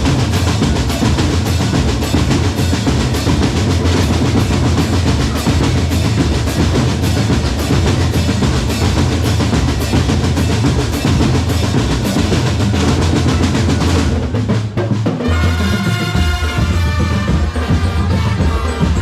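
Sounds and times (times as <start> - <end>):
snare and bass drum roll: 0.0 - 19.0.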